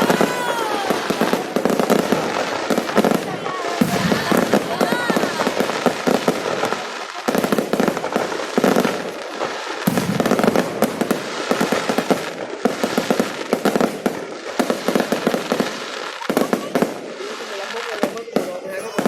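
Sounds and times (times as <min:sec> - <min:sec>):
fireworks crackling bangs: 0:00.0 - 0:19.0.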